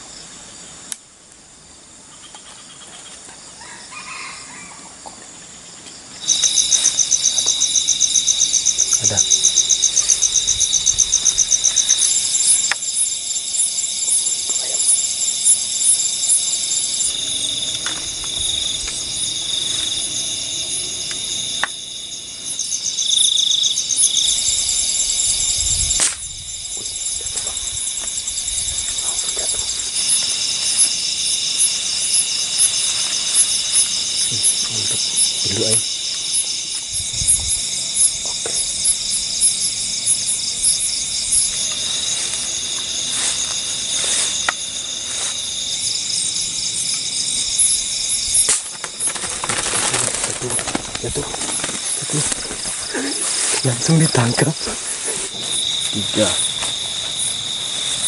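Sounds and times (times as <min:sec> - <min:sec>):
night insects chirring: 0:00.0 - 0:58.0.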